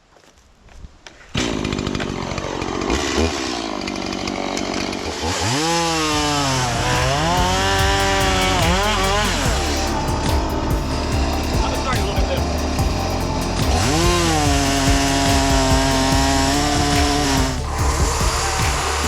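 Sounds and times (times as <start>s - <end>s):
chainsaw starting and revving: 1.3s - 19.0s.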